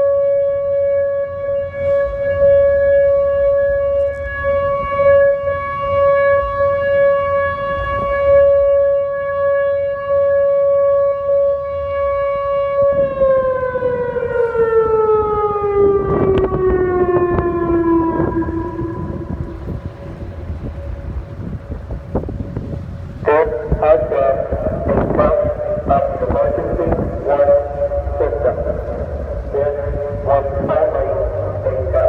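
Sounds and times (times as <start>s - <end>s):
warning siren steady tone: 0.0s - 32.0s
wind buffeting microphone: 1.6s - 9.4s, 10.1s - 32.0s.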